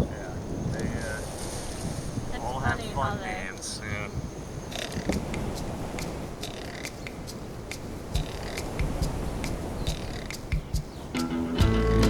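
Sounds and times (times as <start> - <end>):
low wind-like rumble: 0.0 - 11.9.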